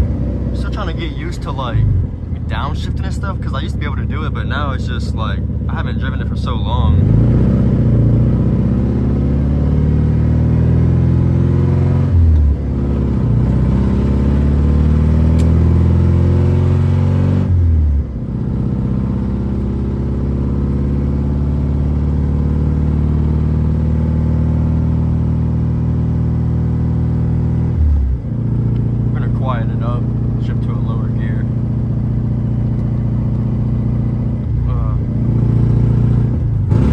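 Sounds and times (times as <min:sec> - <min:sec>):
car engine accelerating through gears: 0:06.8 - 0:36.9.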